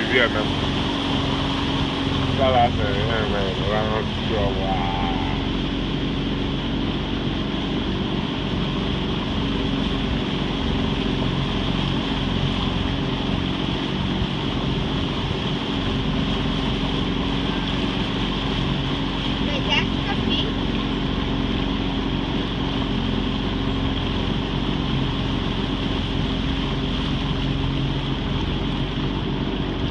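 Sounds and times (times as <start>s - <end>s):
boat motor running: 0.0s - 29.9s.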